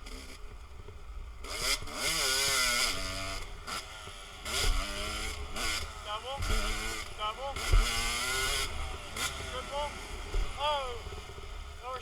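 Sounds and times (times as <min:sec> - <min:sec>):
dirt bike engine revving: 0:01.4 - 0:12.0.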